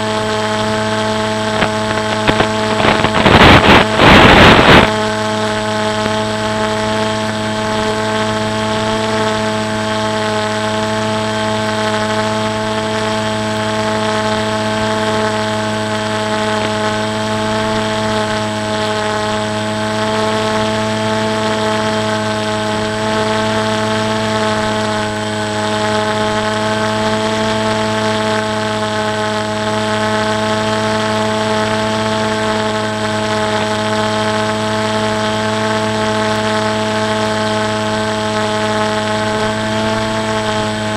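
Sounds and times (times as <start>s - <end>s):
electric motor and propeller whirring: 0.0s - 40.9s.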